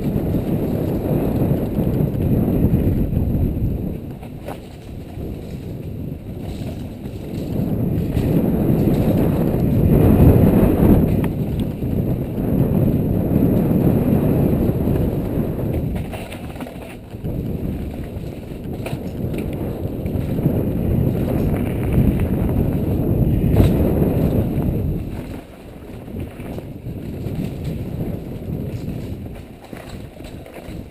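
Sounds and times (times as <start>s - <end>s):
bike tyres rumbling and rattling: 0.0s - 30.9s
wind buffeting microphone: 0.0s - 30.9s.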